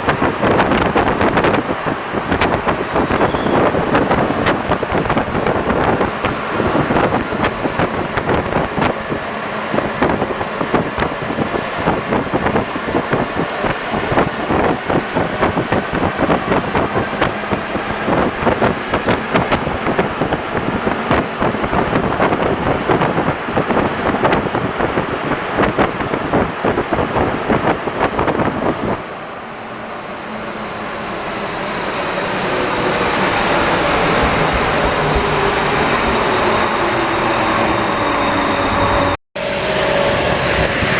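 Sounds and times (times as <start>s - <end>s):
metro train running: 0.0s - 40.9s.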